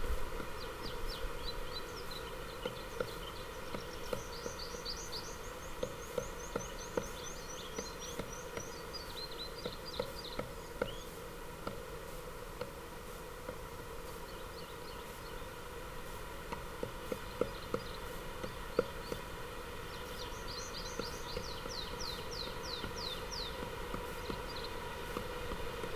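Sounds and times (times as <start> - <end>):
small songbirds chirping: 0.4 - 11.2, 14.1 - 15.7, 17.0 - 25.9.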